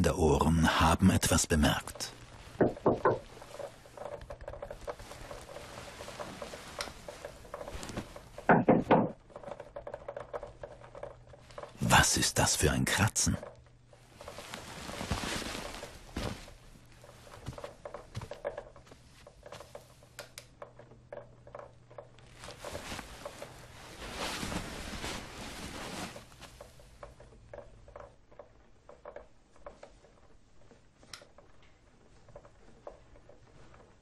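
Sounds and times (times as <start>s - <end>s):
rustling: 1.8s - 8.5s, 13.3s - 34.0s.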